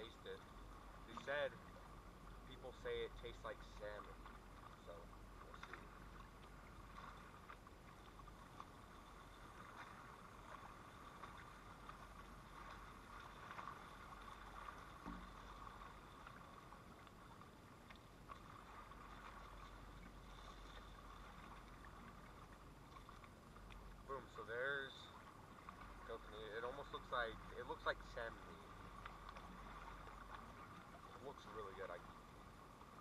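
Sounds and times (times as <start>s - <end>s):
running water at shoreline: 0.0s - 33.0s.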